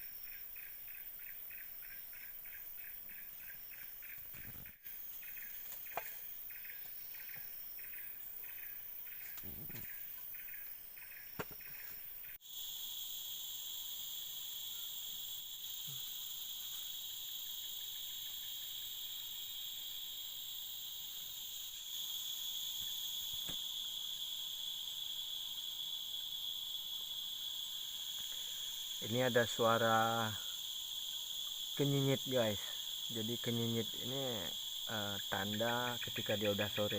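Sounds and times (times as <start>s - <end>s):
cicada high-pitched drone: 0.0s - 36.9s
insects pulsed chirping: 0.0s - 36.9s.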